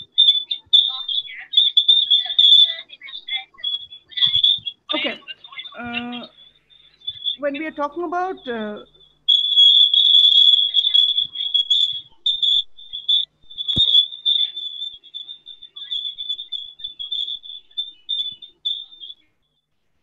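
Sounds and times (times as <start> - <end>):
high-pitched feedback squeal: 0.0 - 19.3.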